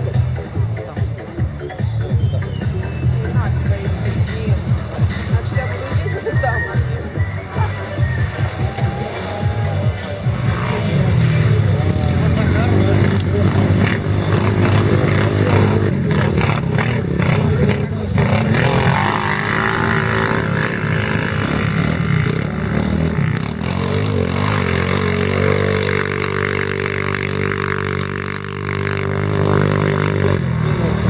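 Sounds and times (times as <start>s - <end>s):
quad bike engines revving: 0.0s - 31.0s.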